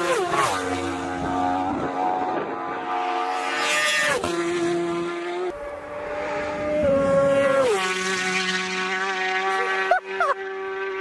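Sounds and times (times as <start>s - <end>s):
racing motorcycle passing by: 0.0s - 11.0s.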